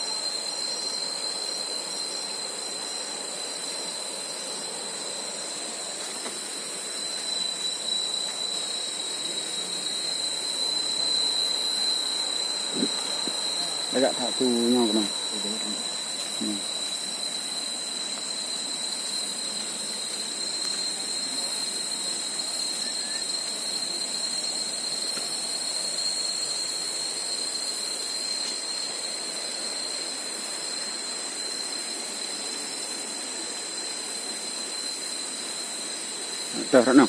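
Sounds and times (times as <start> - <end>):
forest insects droning: 0.0 - 37.0
steady hiss: 0.0 - 37.0.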